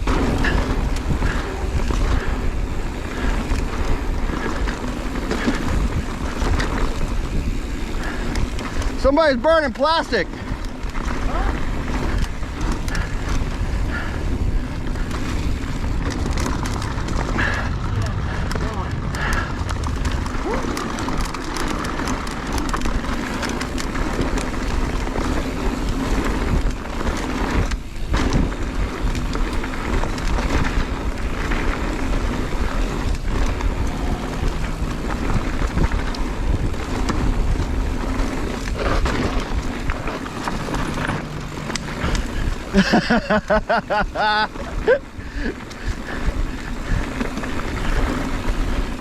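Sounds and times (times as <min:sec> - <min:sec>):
bike rattling over rocks: 0:00.0 - 0:49.0
bike tyres rolling on dirt: 0:00.0 - 0:49.0
wind buffeting microphone: 0:00.0 - 0:49.0.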